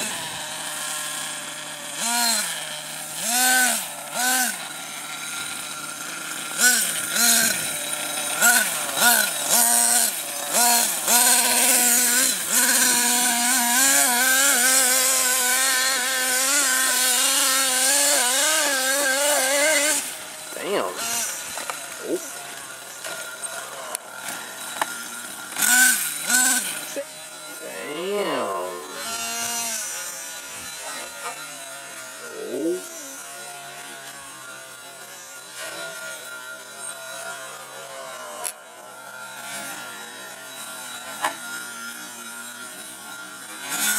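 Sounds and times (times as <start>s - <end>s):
small nitro engine revving: 0.0s - 43.9s.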